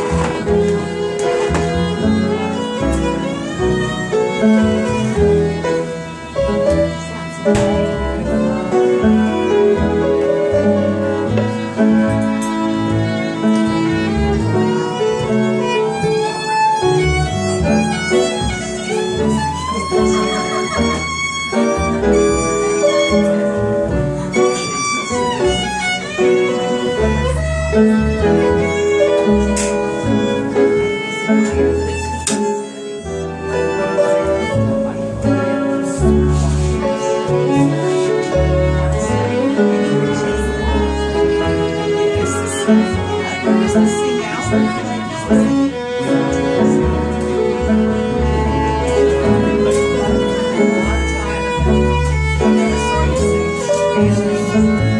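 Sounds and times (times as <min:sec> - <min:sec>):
double bass: 0:00.0 - 0:54.9
upright piano: 0:00.0 - 0:54.9
violin melody with slides: 0:00.0 - 0:54.9.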